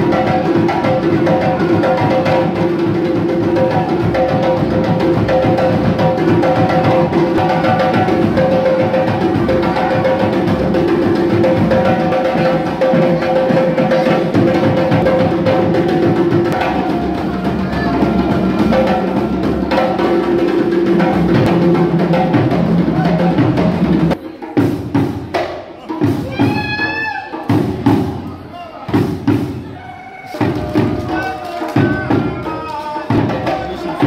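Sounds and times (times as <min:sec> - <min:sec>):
loud drum strikes: 0:00.0 - 0:26.8, 0:27.4 - 0:28.3, 0:28.9 - 0:29.8, 0:30.4 - 0:34.0
group hand drumming: 0:00.0 - 0:28.3, 0:28.9 - 0:34.0.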